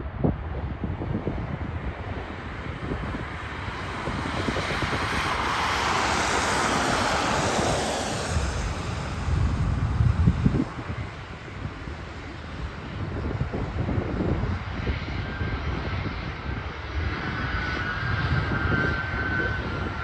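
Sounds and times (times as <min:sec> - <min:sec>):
jet airliner passing: 0:00.0 - 0:20.0
wind buffeting microphone: 0:00.0 - 0:20.0.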